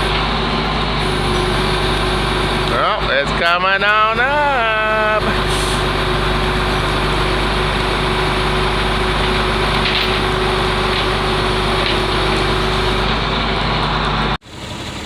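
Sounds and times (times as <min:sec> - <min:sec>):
winch pulling: 0:00.0 - 0:00.4, 0:01.0 - 0:13.4
truck engine running: 0:00.0 - 0:15.0.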